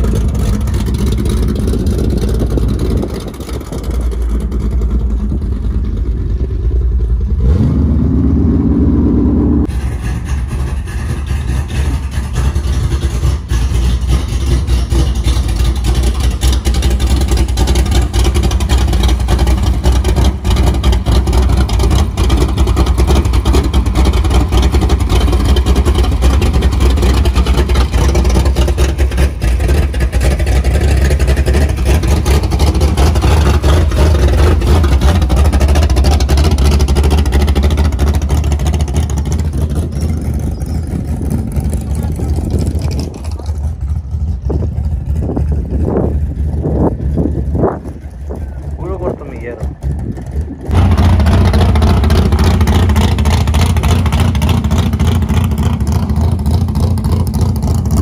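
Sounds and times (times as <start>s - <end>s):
car engine rumbling and revving: 0.0s - 58.0s.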